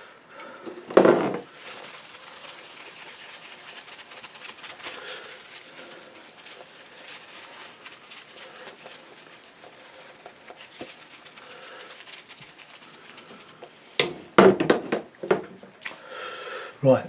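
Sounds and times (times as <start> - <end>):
paper towel rustling and scrubbing: 1.0 - 14.4, 15.8 - 17.0.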